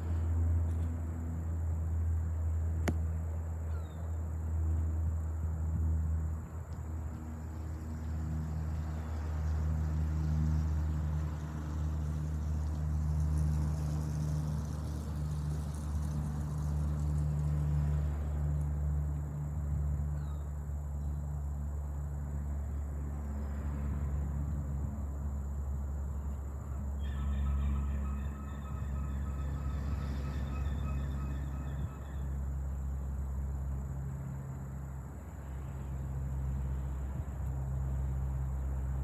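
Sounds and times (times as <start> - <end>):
deep propeller drone overhead: 0.0 - 39.0.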